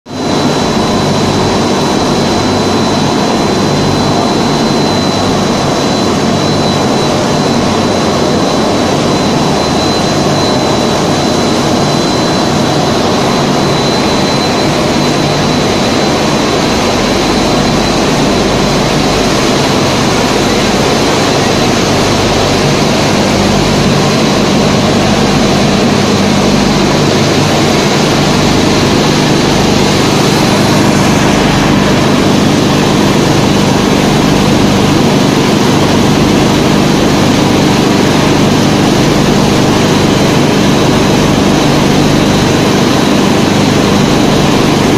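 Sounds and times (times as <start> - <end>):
high-pitched whine: 0.1 - 44.9
loud machine drone: 0.1 - 44.9
low hum: 0.2 - 44.9.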